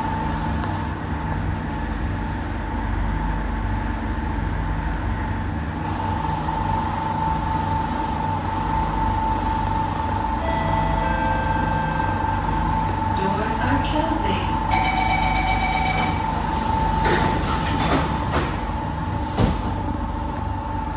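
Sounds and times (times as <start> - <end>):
train low rumble: 0.0 - 20.9.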